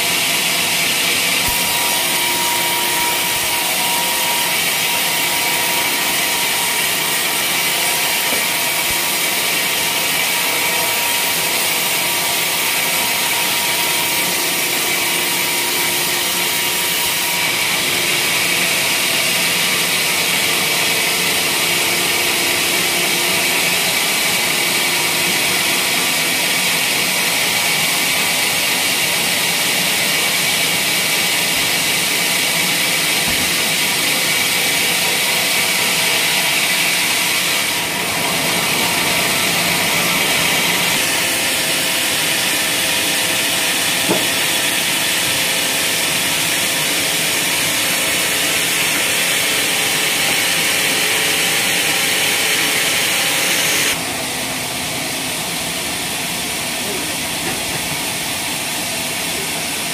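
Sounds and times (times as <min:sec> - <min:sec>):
band saw blade cutting log: 0:00.0 - 0:54.0.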